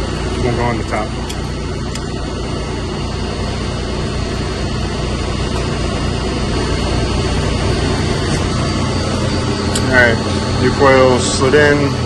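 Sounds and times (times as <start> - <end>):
machinery droning: 0.0 - 12.0
thin high whine: 0.0 - 12.0.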